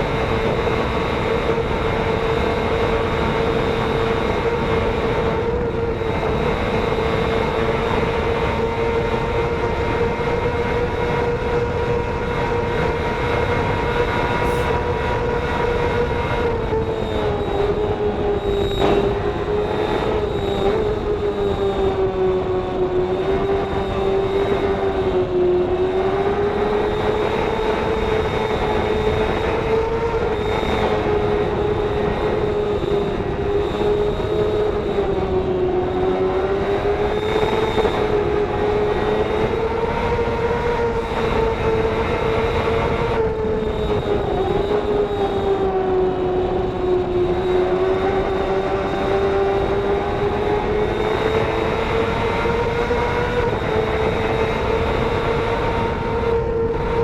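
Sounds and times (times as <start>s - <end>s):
racing motorcycle engine screaming: 0.1s - 57.0s.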